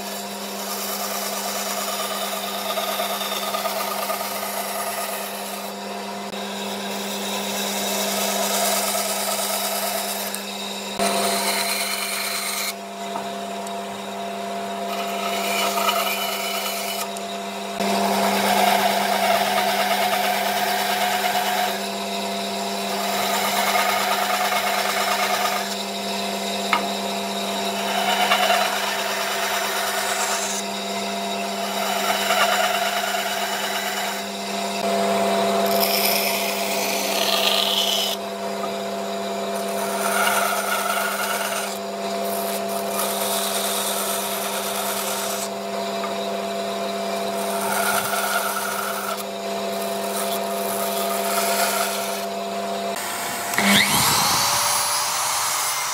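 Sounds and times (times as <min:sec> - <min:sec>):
bandsaw cutting wood: 0:00.0 - 0:55.9
bandsaw motor hum: 0:00.0 - 0:55.9.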